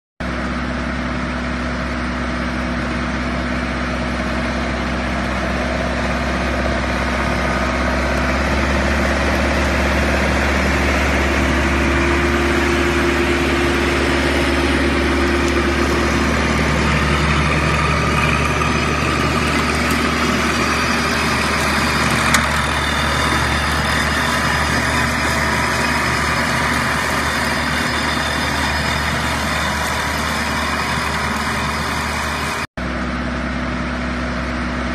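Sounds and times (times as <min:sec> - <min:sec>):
tractor engine running: 0:00.2 - 0:34.9.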